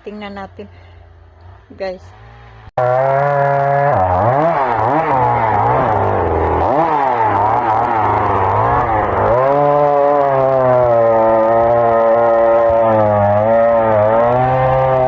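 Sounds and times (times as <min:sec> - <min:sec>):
chainsaw cutting firewood: 0:01.2 - 0:15.0.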